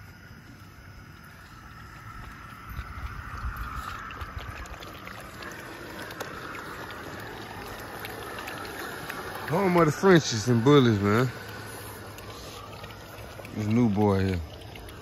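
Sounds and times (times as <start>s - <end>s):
water lapping in a plastic pool: 0.0s - 15.0s.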